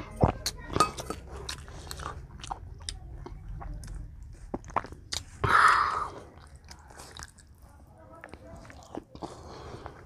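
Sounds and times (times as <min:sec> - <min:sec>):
loud noisy eating sound: 0:00.0 - 0:10.0
wet chewing with clicks: 0:00.2 - 0:05.5, 0:06.1 - 0:10.0.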